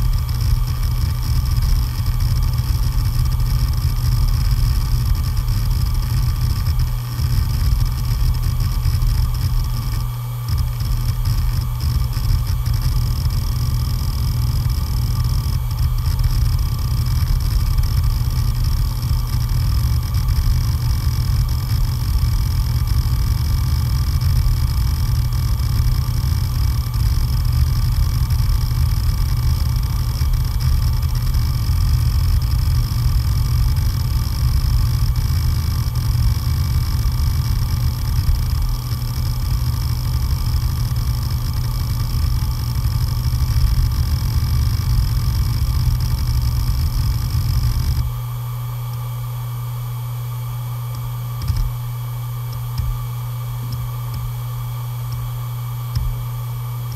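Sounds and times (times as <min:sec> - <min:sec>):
faint steady whine: 0:00.0 - 0:56.9
hard disk drive humming: 0:00.0 - 0:56.9.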